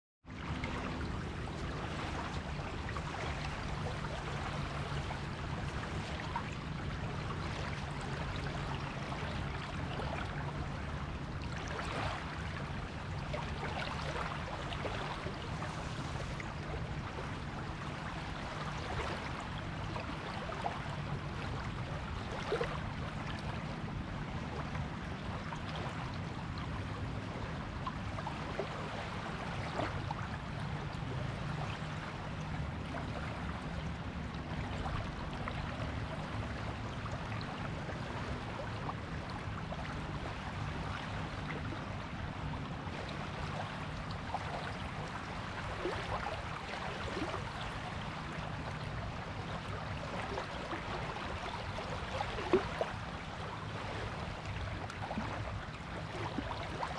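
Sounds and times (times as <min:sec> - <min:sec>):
water washing on beach shore: 0:00.5 - 0:56.9.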